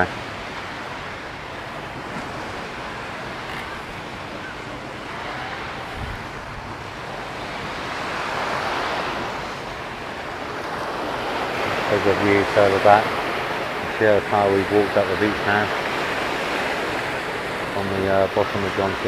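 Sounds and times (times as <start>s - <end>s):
waves washing on sandy beach: 0.0s - 19.0s.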